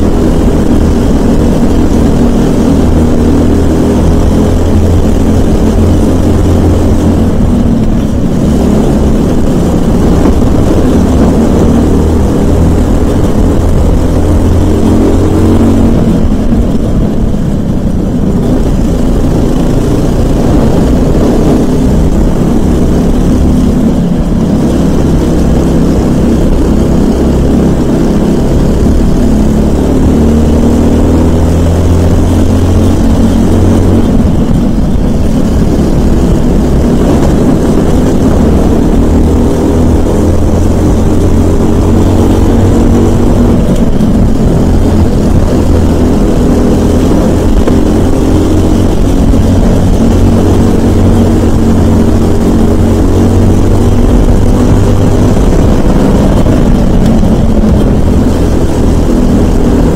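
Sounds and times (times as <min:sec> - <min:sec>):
kart engine running hard: 0:00.0 - 0:59.9
other kart engines nearby: 0:00.0 - 0:59.9.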